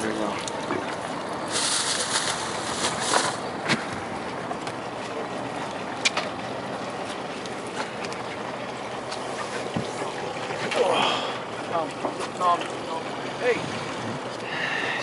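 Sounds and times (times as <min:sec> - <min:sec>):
small boat rushing through water: 0:00.0 - 0:15.0
wind: 0:00.0 - 0:15.0.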